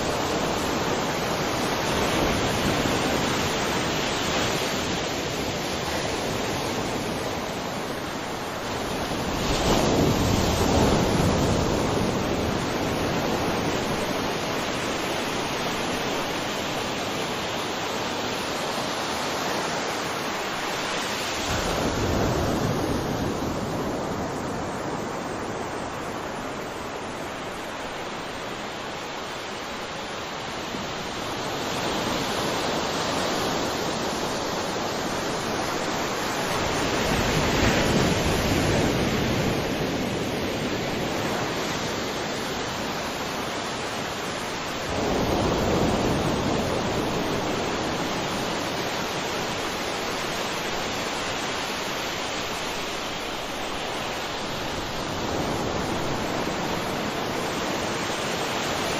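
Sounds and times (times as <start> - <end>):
sea waves breaking: 0.0 - 58.9.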